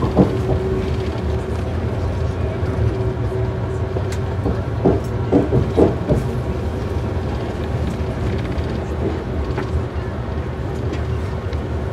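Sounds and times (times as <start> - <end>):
train wheels clacking: 0.0 - 11.7
train interior rumble: 0.0 - 11.9.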